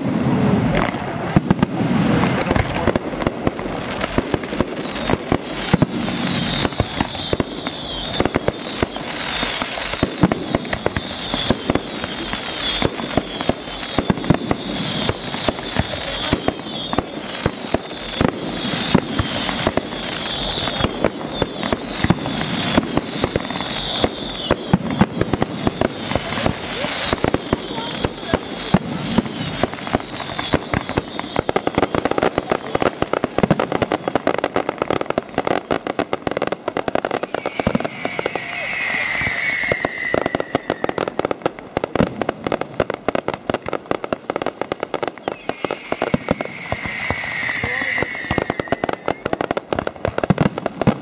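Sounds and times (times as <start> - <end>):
distant fireworks bangs: 0.0 - 51.0.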